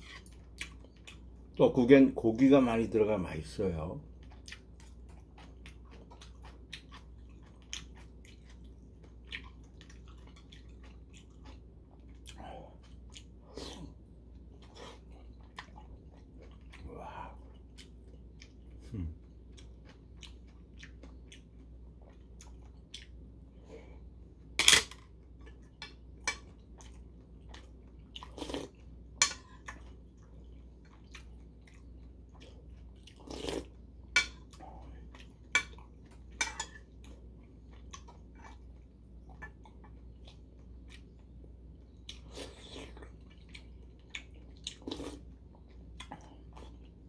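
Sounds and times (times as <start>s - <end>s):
chewing and wet mouth sounds: 0.0s - 1.6s, 4.0s - 47.0s.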